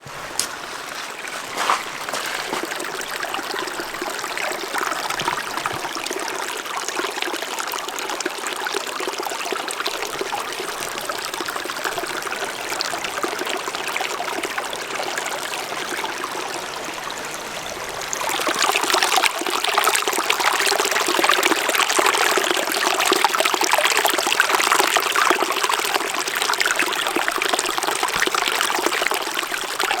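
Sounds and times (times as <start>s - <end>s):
stream babbling over stones: 0.0s - 30.0s.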